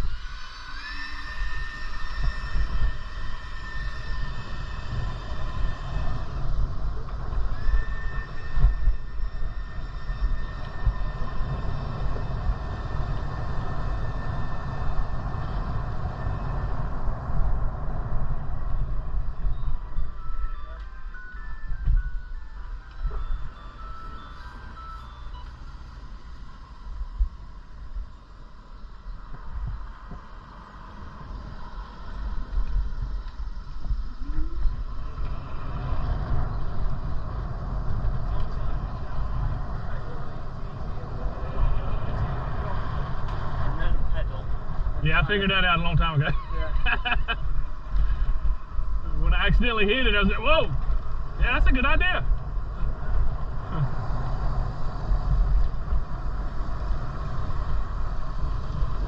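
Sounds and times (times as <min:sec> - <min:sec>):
tyre and road noise: 0:00.0 - 0:59.0
wind buffeting microphone: 0:00.0 - 0:59.0.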